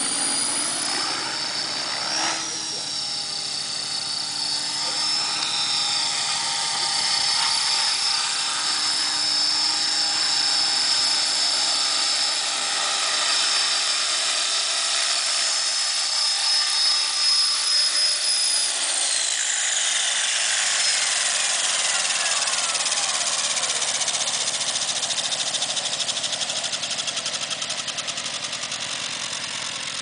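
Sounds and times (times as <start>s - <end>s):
rc helicopter rotor whine: 0.0s - 30.0s.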